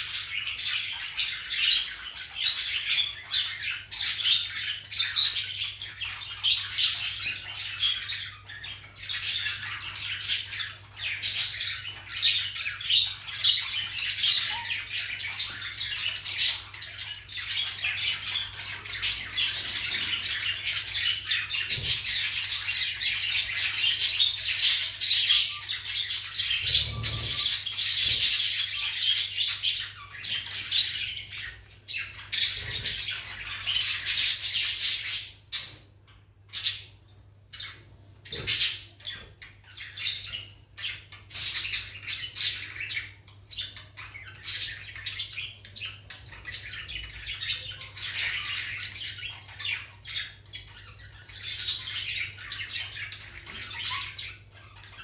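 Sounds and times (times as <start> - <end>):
parrot chattering and squawking: 0.0 - 35.9, 36.5 - 55.0.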